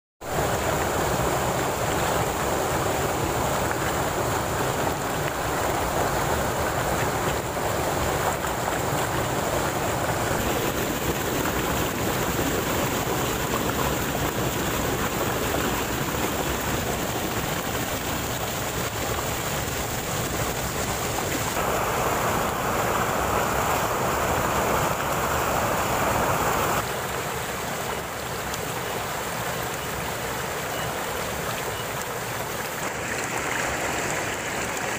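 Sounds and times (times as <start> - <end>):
stream water rushing over rocks: 0.2 - 34.9.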